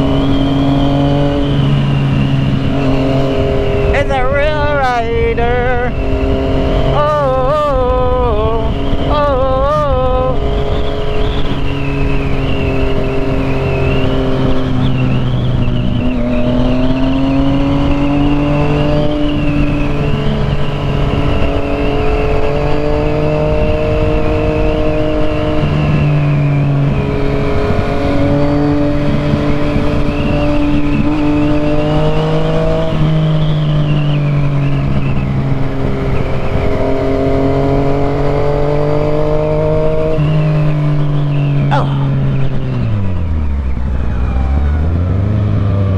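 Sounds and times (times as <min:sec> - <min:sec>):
motorcycle engine running: 0:00.0 - 0:45.9
wind noise: 0:00.0 - 0:45.9.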